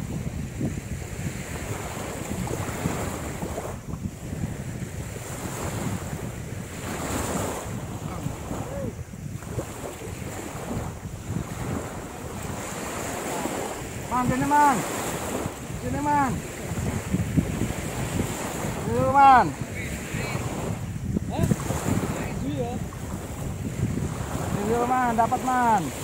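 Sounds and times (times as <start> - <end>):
small waves on shore: 0.0 - 26.0
wind rumbling on microphone: 0.0 - 26.0.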